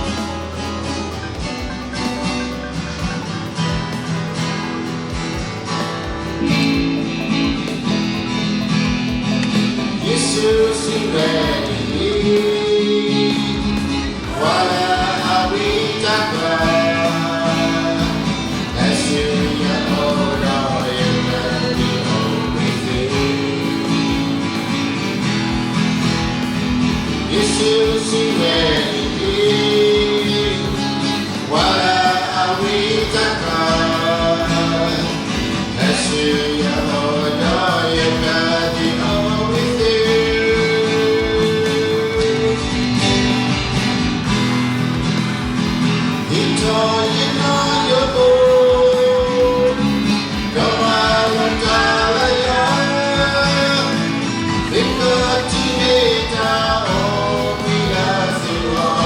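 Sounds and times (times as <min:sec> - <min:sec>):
strummed acoustic guitar: 0:00.0 - 0:59.0
person singing: 0:09.4 - 0:43.8, 0:45.3 - 0:59.0.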